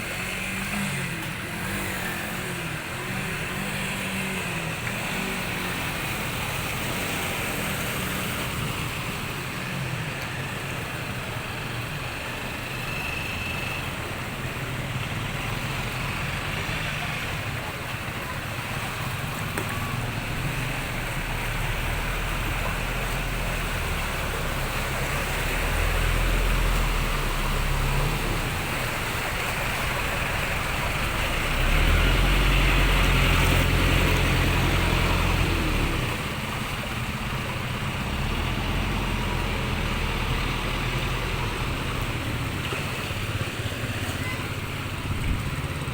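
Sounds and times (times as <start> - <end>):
motor engine humming: 8.2 - 45.9.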